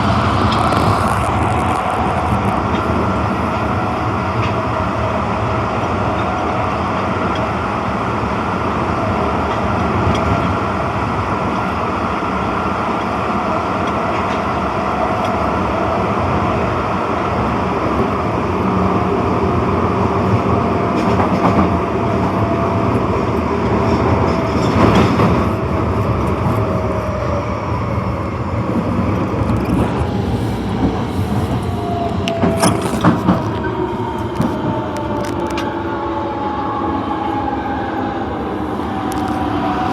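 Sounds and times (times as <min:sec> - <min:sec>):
wheel-on-rail noise: 0:00.0 - 0:36.6, 0:37.3 - 0:39.9
high-pitched subway running whine: 0:00.0 - 0:39.9.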